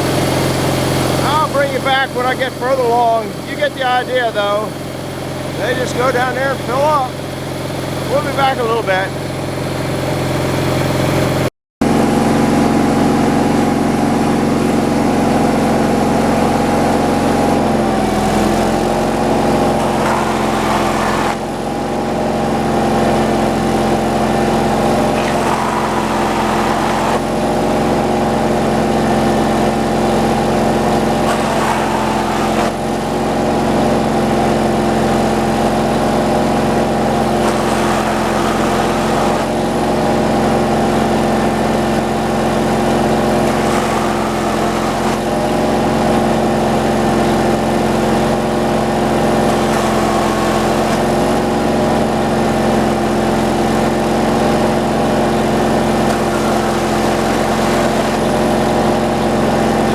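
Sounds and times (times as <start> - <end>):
gas engine powering a sawmill: 0.0 - 59.9.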